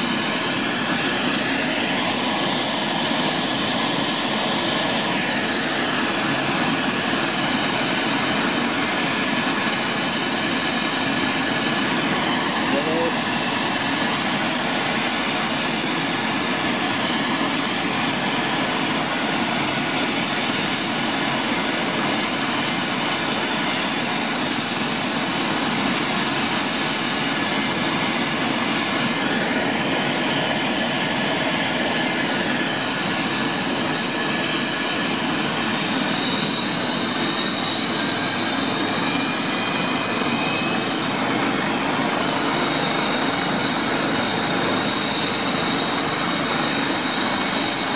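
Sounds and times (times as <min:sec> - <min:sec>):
helicopter rotor rush: 0:00.0 - 0:47.9
helicopter turbine whine: 0:00.0 - 0:47.9.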